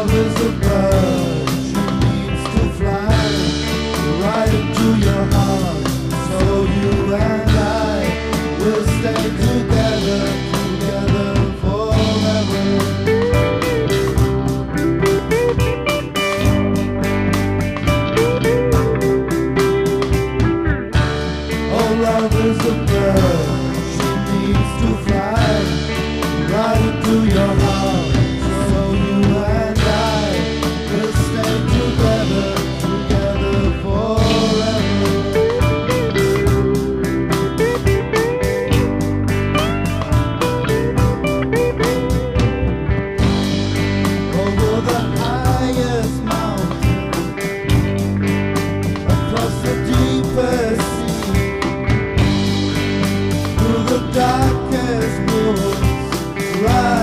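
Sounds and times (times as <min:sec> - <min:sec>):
classic rock song: 0:00.0 - 0:57.0
drum beat: 0:00.0 - 0:57.0
electric guitars: 0:00.0 - 0:57.0.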